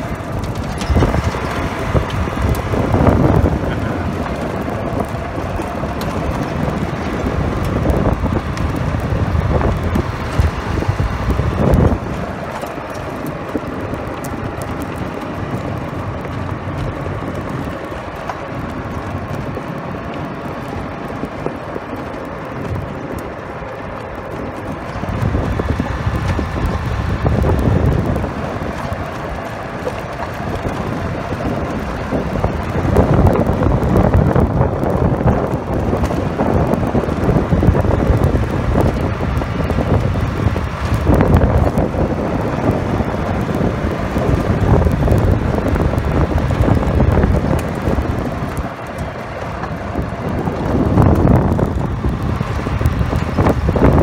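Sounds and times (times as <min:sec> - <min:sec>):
golf cart tyres on gravel: 0:00.0 - 0:54.0
wind buffeting microphone: 0:00.0 - 0:54.0.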